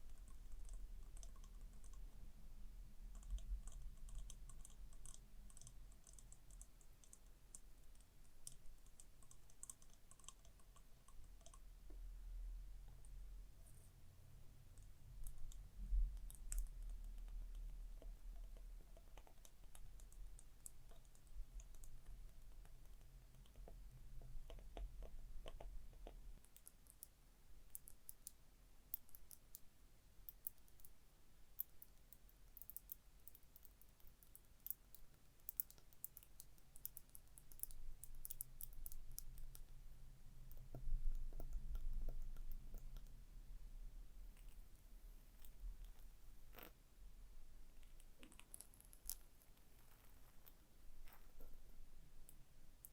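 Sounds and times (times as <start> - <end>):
tapping and scratching on small object: 0.0 - 2.3, 3.0 - 12.0, 14.7 - 43.2, 44.3 - 46.8, 47.7 - 52.9.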